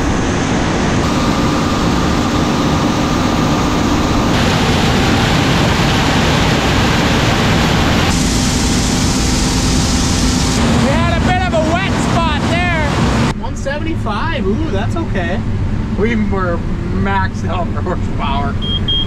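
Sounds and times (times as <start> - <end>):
combine harvester machinery noise: 0.0 - 19.0.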